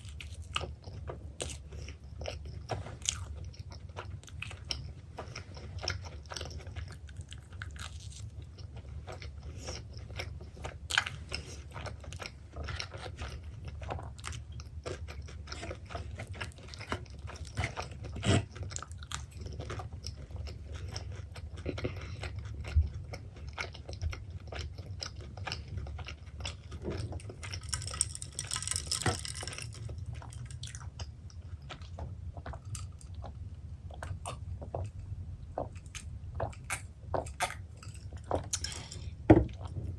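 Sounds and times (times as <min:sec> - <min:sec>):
chewing pizza: 0:00.0 - 0:39.9.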